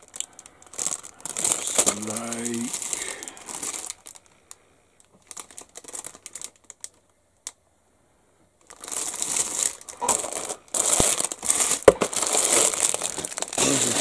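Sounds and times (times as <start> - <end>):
plastic bag crinkling: 0.0 - 7.6, 8.6 - 14.0.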